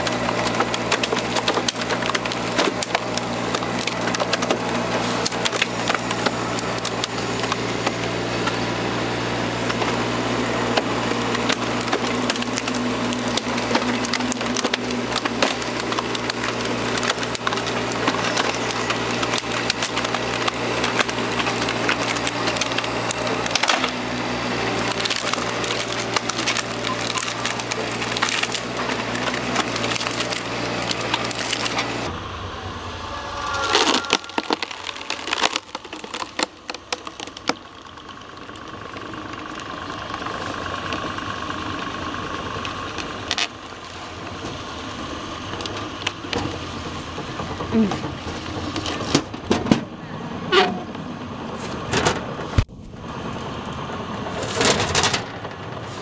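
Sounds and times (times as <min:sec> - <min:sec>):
wood cracking and splintering: 0:00.0 - 0:32.1, 0:33.1 - 0:50.0, 0:51.6 - 0:56.0
hydraulic machine drone: 0:00.0 - 0:56.0.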